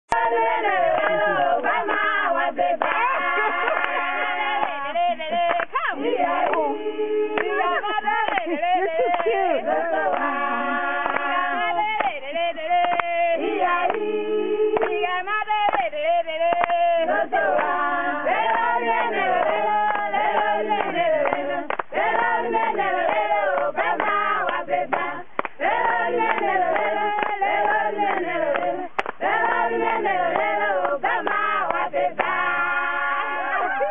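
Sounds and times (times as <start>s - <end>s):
choir singing unaccompanied: 0.1s - 33.9s.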